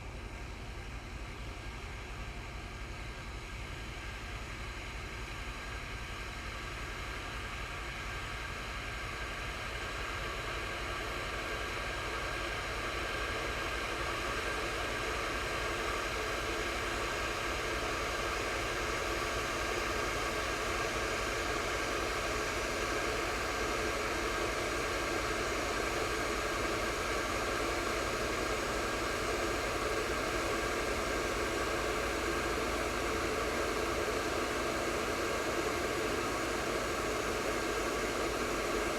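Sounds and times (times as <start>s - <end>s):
electric kettle heating water: 0.0s - 38.9s.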